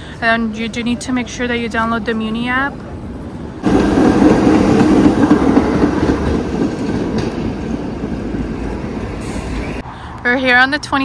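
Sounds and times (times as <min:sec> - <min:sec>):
transit vehicle ride noise: 0:00.0 - 0:11.0.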